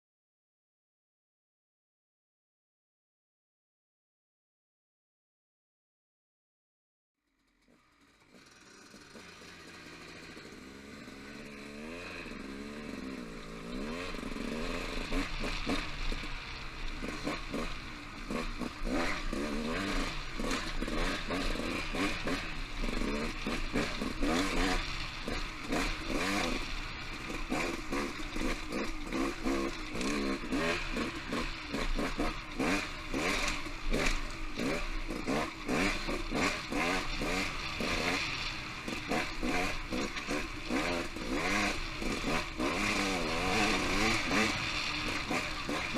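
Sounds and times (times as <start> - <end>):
motorcycle engine revving: 7.3 - 45.9.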